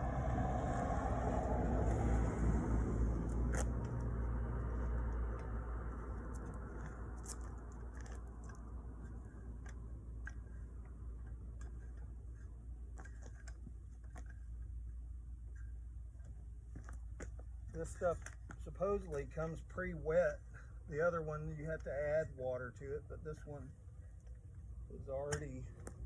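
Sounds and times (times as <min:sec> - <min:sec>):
vehicle low rumble: 0:00.0 - 0:26.0
clicks and ticks of asphalt work: 0:01.7 - 0:02.3, 0:03.0 - 0:26.0.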